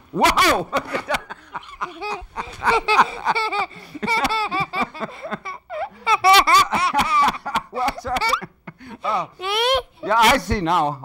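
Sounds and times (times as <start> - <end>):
man laughing: 0.3 - 9.3
boy laughing: 0.4 - 10.4.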